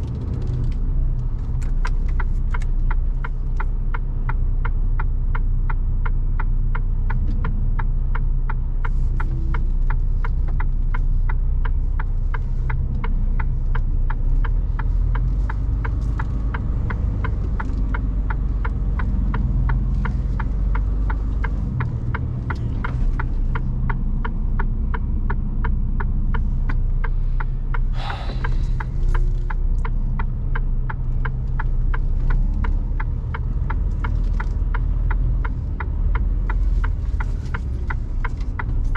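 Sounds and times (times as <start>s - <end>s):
truck diesel engine running: 0.0s - 38.9s
turn signal ticking: 0.0s - 38.9s.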